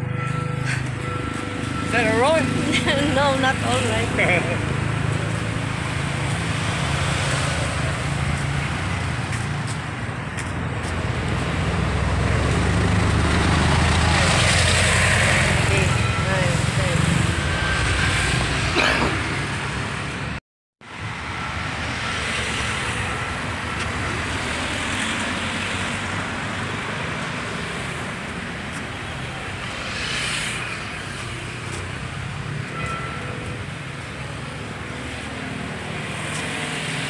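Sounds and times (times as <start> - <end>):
loud vehicle passing: 0.0 - 20.4, 21.0 - 37.0
street traffic passing: 0.0 - 37.0.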